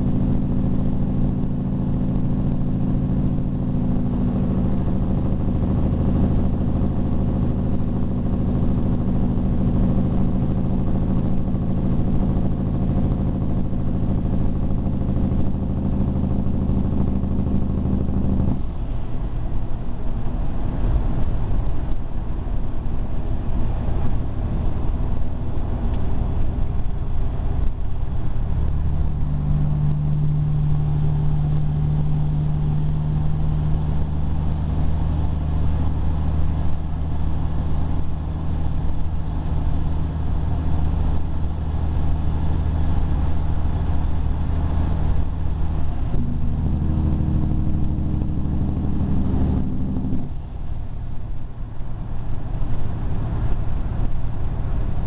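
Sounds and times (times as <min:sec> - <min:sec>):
road noise: 0:00.0 - 0:55.0
vehicle engine drone: 0:00.0 - 0:55.0.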